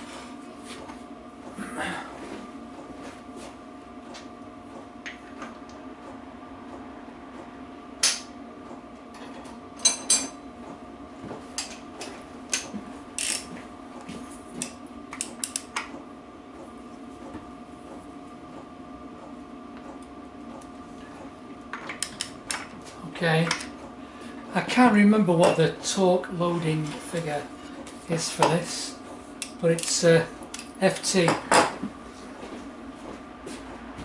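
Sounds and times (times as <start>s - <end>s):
steady workshop hum: 0.0s - 34.0s.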